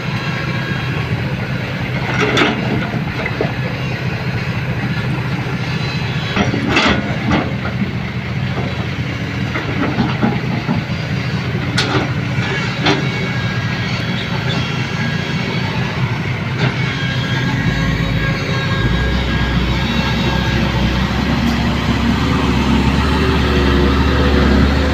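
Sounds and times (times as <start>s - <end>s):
heavy vehicle humming: 0.0s - 24.9s.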